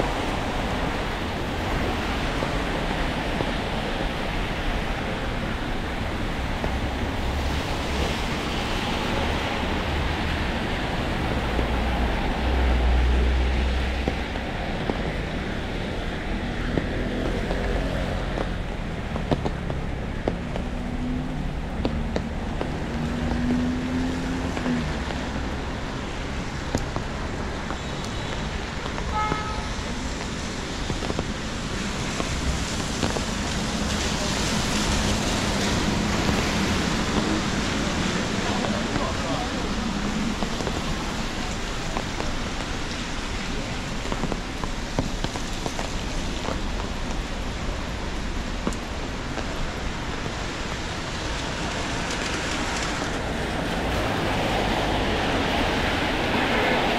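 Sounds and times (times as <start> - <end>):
passing vehicle rumble: 0.0 - 27.6, 29.7 - 56.9
rain: 0.0 - 56.9
tyres hissing on wet road: 0.0 - 56.9.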